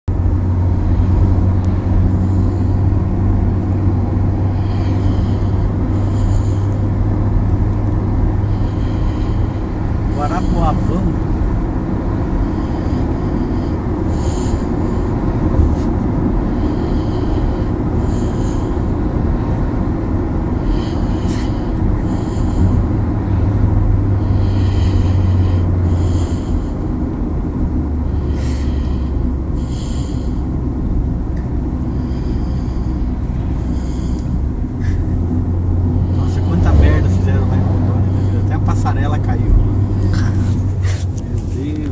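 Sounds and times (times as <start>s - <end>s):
low drone of car: 0.0s - 41.9s.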